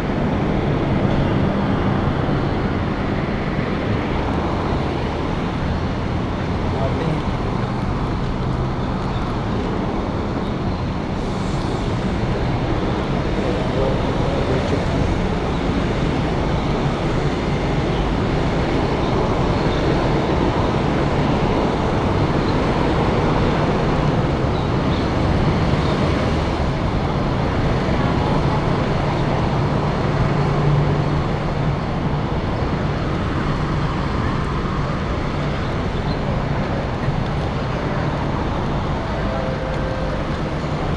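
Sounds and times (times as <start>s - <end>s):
road traffic with engine hum: 0.0s - 40.9s.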